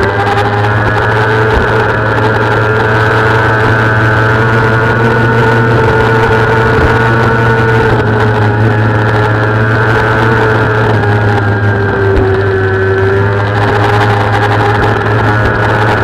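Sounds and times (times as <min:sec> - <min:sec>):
racing motorcycle engine at high revs: 0:00.0 - 0:16.0.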